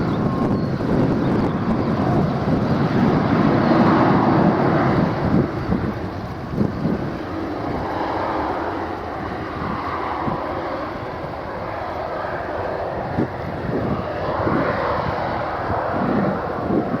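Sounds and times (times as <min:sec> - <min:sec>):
jet engines roaring: 0:00.0 - 0:17.0
wind rumbling on microphone: 0:00.0 - 0:17.0.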